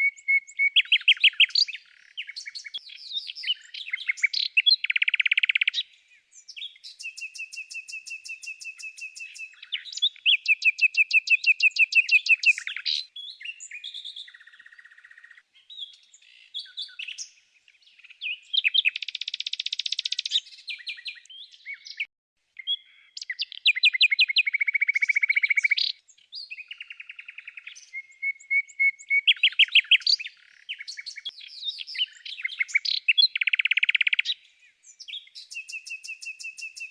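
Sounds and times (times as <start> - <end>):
songbird trilling and chirping: 0.0 - 36.9.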